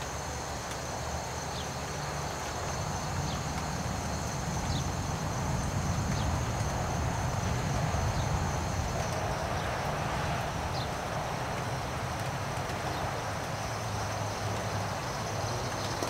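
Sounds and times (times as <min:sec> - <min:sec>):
faint drip ticks: 0:00.0 - 0:09.8, 0:10.8 - 0:16.0
light rain hiss: 0:00.0 - 0:16.0
wind rumble on microphone: 0:00.0 - 0:16.0.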